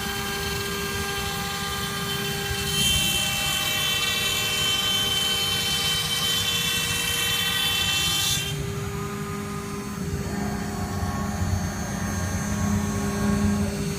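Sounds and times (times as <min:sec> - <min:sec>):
router spindle whining: 0:00.0 - 0:13.9.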